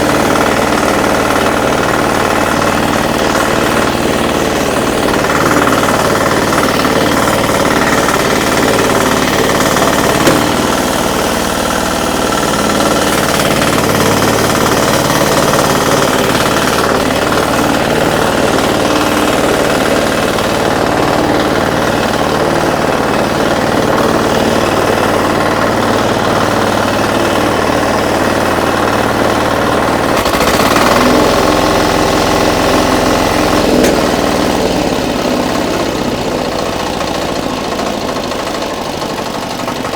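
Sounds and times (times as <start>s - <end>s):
power weeder engine hammering: 0.0s - 39.9s.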